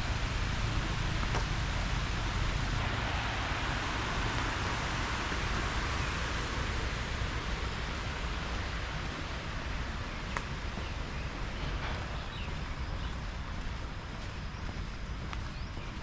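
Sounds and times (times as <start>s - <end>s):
steady rushing rumble: 0.0s - 16.0s.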